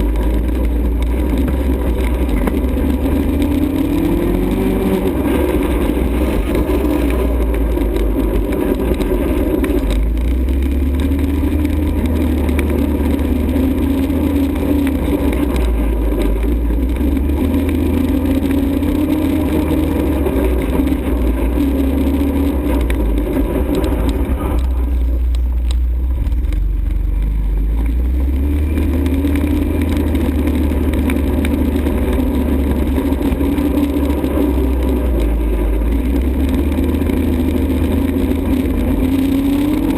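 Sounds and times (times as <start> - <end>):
atv engine revving: 0.0 - 39.9
heavy low rumble: 0.0 - 39.9.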